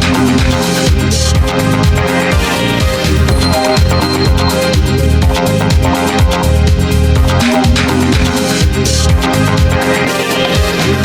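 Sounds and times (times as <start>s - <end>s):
electronic dance music: 0.4s - 11.0s.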